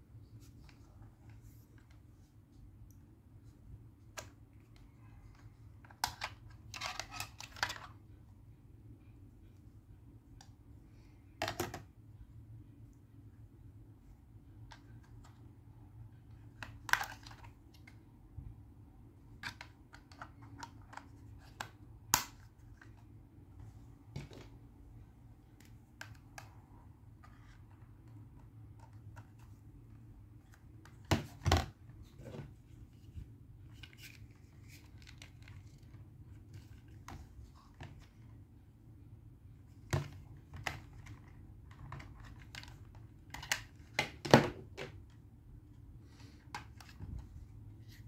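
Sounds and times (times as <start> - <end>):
faint steady low hum: 0.0 - 48.0.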